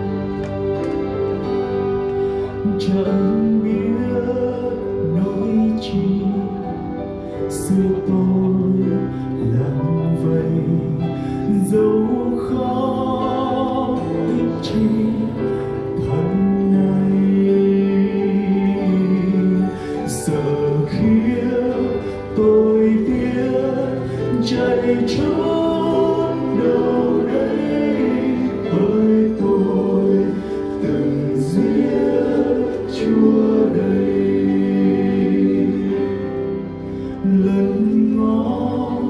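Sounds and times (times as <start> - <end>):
male quartet singing hymn: 7.5 - 39.0.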